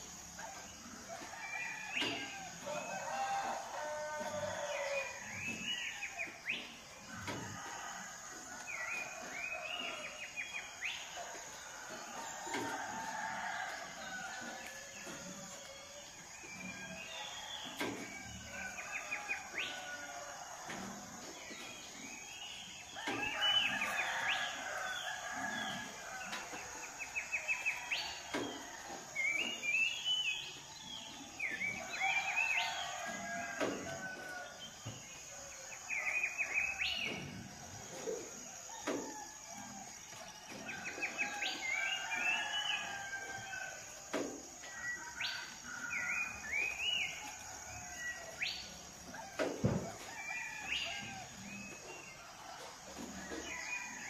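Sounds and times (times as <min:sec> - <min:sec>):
roosters crowing: 0:00.0 - 0:54.0
songbirds chirping and trilling: 0:00.0 - 0:54.0.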